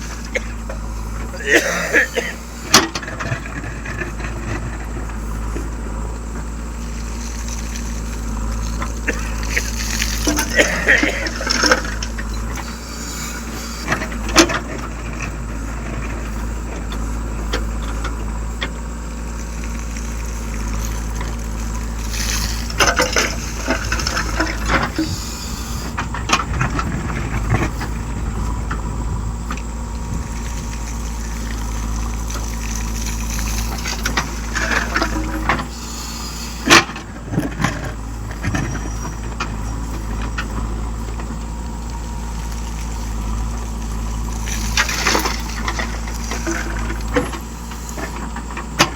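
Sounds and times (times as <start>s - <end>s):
rattles and clatters: 0.0s - 48.9s
tractor engine running: 0.0s - 48.9s.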